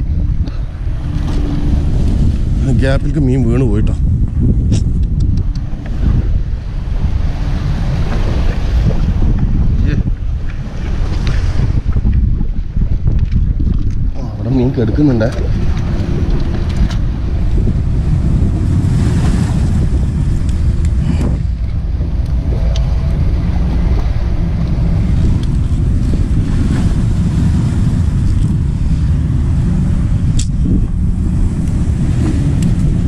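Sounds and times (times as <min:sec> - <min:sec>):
sea washing around boulders: 0:00.0 - 0:33.0
wind rumbling on microphone: 0:00.0 - 0:33.0.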